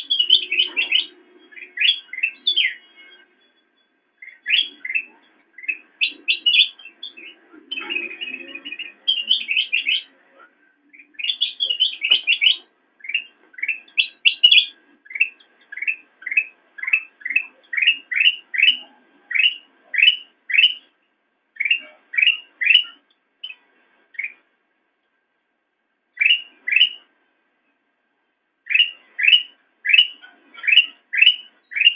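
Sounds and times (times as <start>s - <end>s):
bulbul singing: 0.0s - 24.5s, 26.1s - 27.1s, 28.6s - 31.9s.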